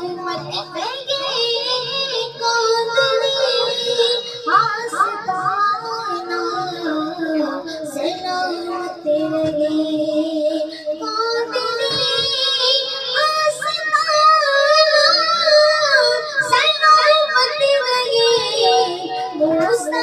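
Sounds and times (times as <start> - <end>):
boy singing into a microphone: 0.0 - 20.0.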